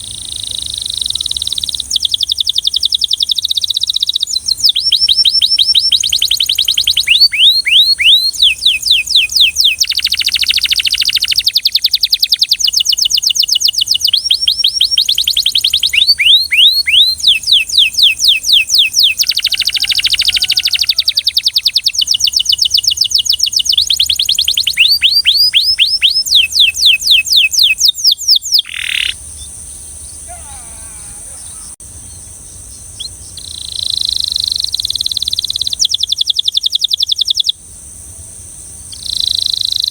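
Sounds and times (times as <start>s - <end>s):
canary singing fast trills: 0.0s - 37.6s, 38.8s - 39.9s
quiet bird chirps: 0.0s - 37.6s, 38.8s - 39.9s.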